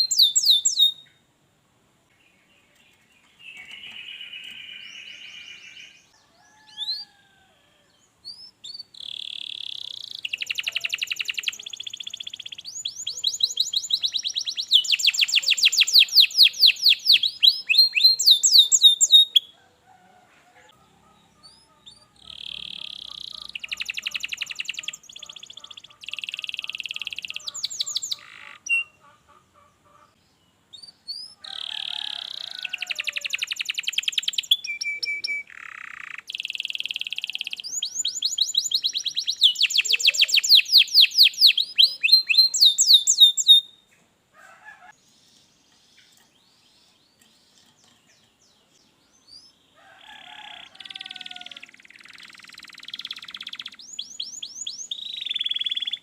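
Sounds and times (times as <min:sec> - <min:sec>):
canary singing trills: 0:00.0 - 0:01.3, 0:02.2 - 0:07.4, 0:08.2 - 0:19.6, 0:20.6 - 0:44.0, 0:44.8 - 0:56.0.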